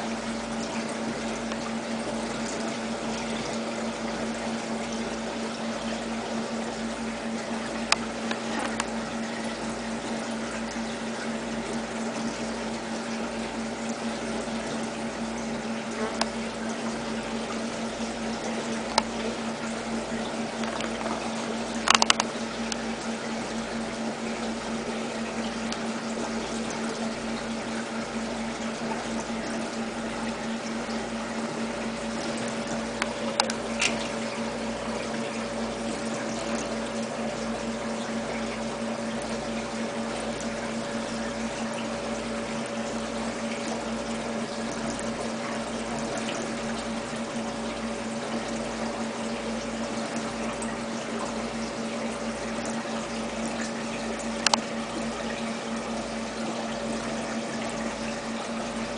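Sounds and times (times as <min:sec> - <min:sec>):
water pump hum: 0:00.0 - 0:58.9
water running: 0:00.0 - 0:58.9.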